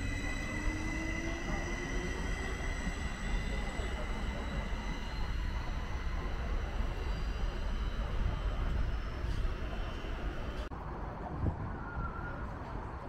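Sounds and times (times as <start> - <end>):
high whining tones: 0.0 - 10.7
train wheels rumbling on rails: 0.0 - 13.0.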